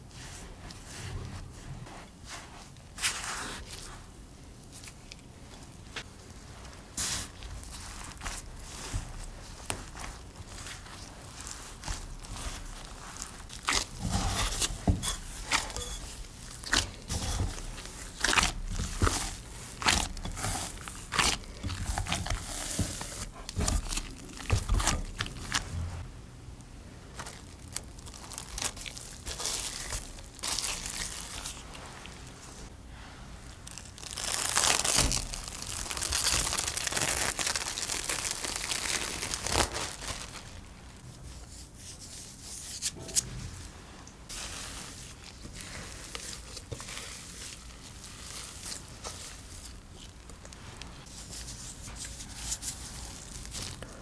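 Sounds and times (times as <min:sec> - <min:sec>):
dough squelching and crackling: 0:00.0 - 0:43.0, 0:43.6 - 0:54.0.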